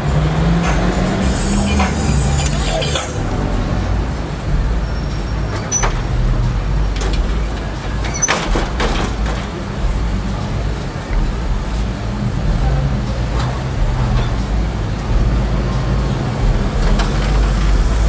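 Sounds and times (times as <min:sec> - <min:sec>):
car engines idling in traffic: 0:00.0 - 0:18.0.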